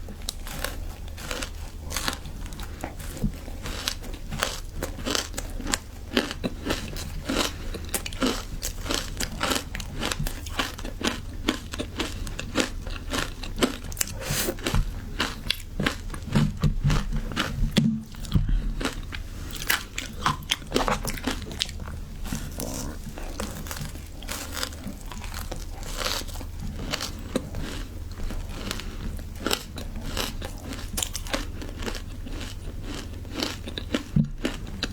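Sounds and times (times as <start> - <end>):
ice crunching being chewed: 0.0 - 34.9.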